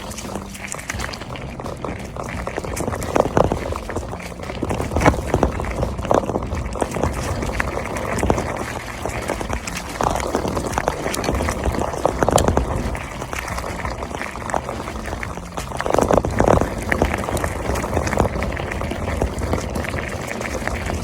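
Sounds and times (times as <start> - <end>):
bike tyres rolling: 0.0 - 21.0.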